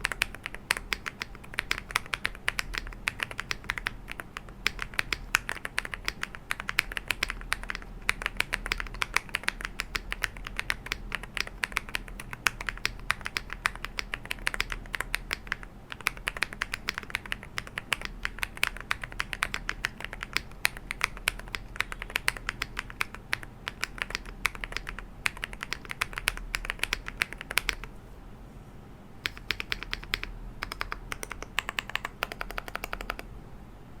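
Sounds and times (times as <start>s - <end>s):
mechanical keyboard typing: 0.0s - 27.9s, 29.2s - 33.3s.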